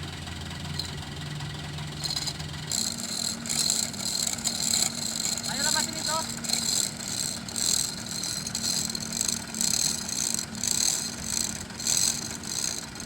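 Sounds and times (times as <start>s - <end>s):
vehicle engine idling: 0.0s - 13.0s
high rasping rattle: 0.3s - 13.0s.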